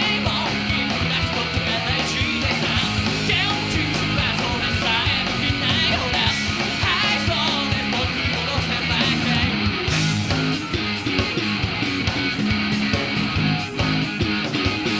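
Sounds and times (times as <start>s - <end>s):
drums beating: 0.0s - 14.9s
electric guitar: 0.0s - 14.9s.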